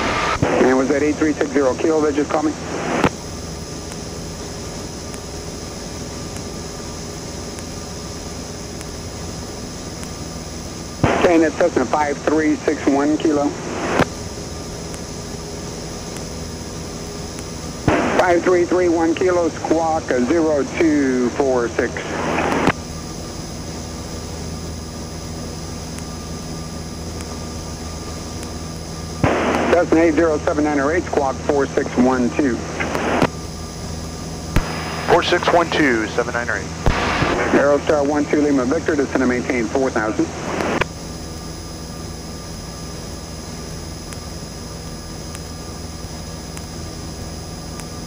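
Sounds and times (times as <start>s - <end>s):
aircraft engine and propeller drone: 0.0s - 48.0s
radio hiss: 0.0s - 48.0s.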